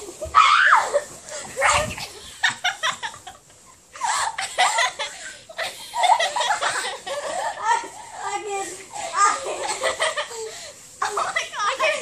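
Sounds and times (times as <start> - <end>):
children laughing: 0.0 - 12.0.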